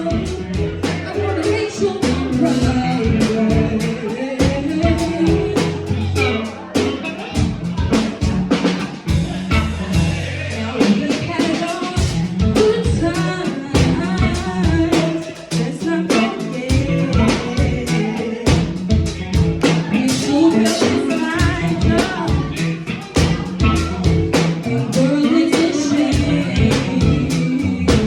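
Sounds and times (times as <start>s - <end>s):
band with drums: 0.0s - 28.0s
person singing: 0.0s - 28.0s.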